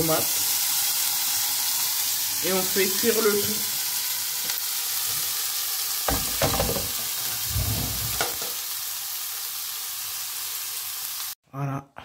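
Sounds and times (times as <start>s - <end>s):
vegetables sizzling in hot oil: 0.0s - 11.4s.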